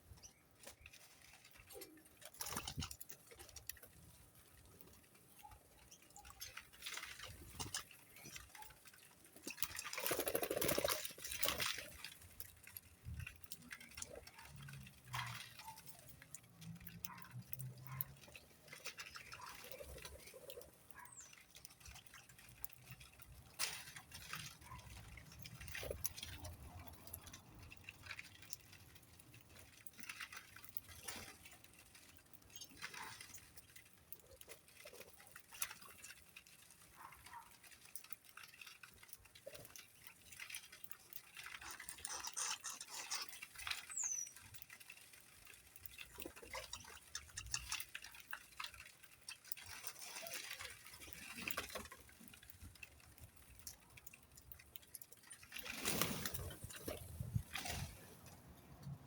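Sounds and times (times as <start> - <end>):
birds pecking and scratching: 0.0 - 59.0.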